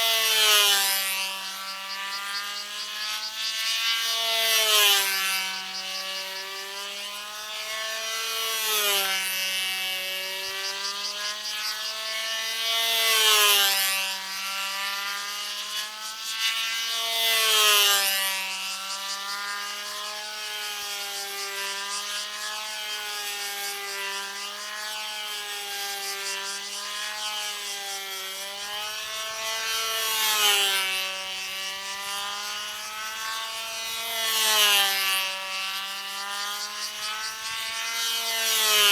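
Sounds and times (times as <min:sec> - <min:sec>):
model aircraft engine buzzing: 0:00.0 - 0:38.9.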